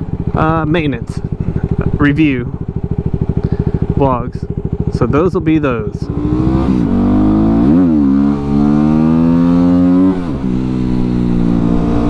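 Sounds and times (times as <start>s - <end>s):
motorcycle engine revving through gears: 0.0s - 12.0s.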